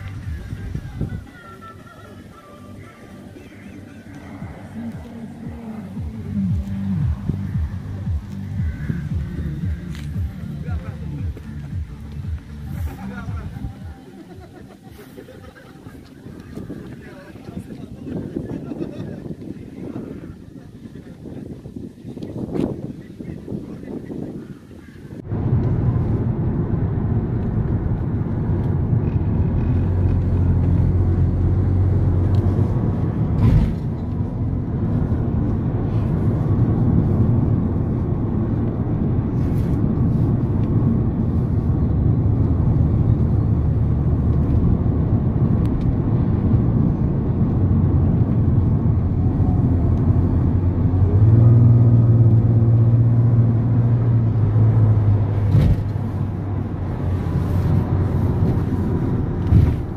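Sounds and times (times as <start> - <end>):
car engine hum: 0.0 - 59.9
road noise inside car: 0.0 - 59.9.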